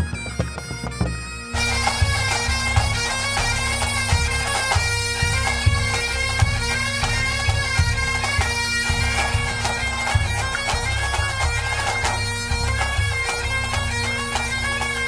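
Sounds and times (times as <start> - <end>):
drum beat: 0.0 - 14.8
bagpipes playing: 0.0 - 15.0.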